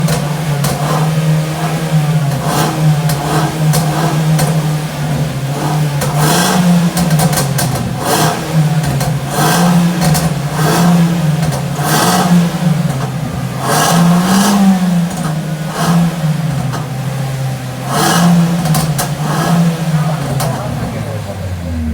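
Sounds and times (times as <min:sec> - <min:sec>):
car engine revving: 0:00.0 - 0:21.9
exhaust popping and crackling: 0:00.0 - 0:21.9.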